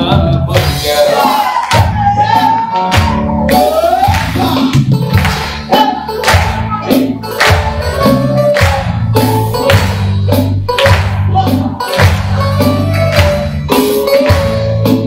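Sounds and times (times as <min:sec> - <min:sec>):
dance music over sound system: 0:00.0 - 0:15.0.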